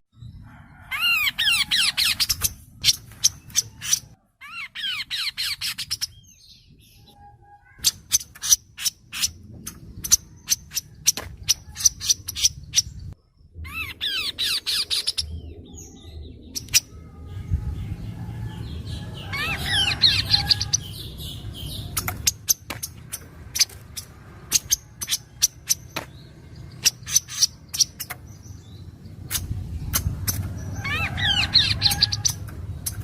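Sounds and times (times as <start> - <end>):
low background rumble: 5.6 - 33.0.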